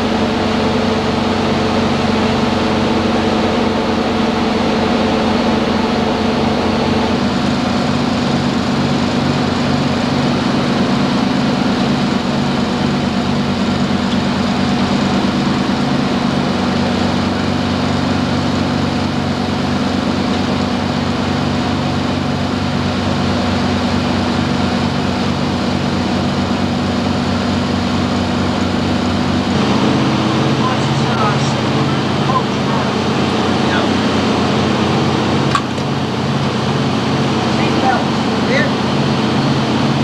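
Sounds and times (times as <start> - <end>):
piston engines droning in cabin: 0.0 - 40.0.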